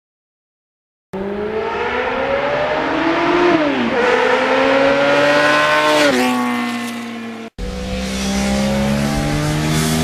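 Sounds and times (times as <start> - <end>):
motorcycle engine accelerating: 1.2 - 10.0.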